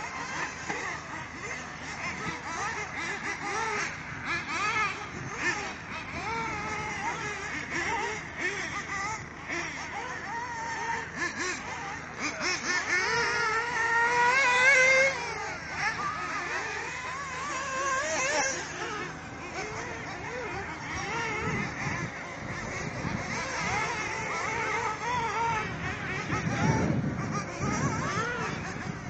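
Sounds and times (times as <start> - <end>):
rc car motors revving: 0.0 - 29.0.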